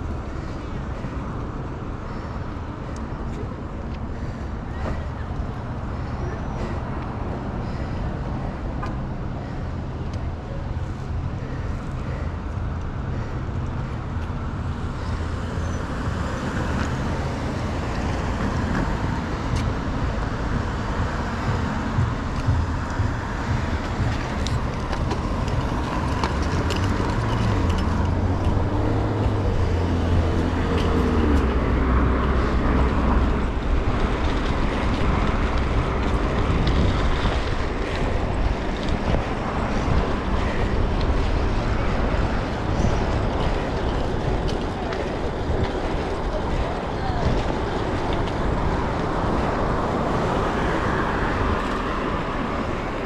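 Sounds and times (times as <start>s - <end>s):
engine droning: 0.0s - 53.0s
rushing noise: 0.0s - 53.0s.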